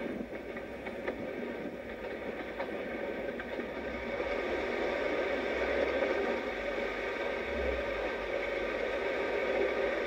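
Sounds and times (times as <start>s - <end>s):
moving train rushing noise: 0.0s - 10.0s.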